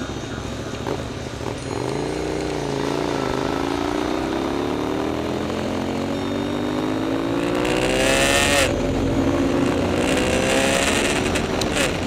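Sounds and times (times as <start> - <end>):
motorcycle engine revving: 0.2 - 12.0.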